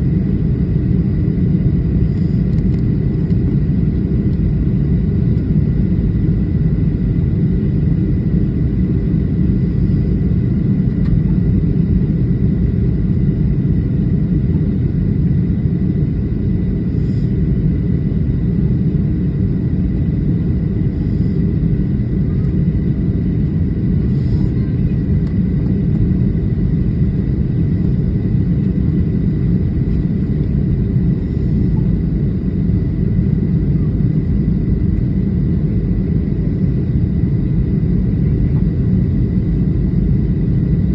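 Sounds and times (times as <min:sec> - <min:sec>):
airliner cabin low rumble: 0:00.0 - 0:40.9.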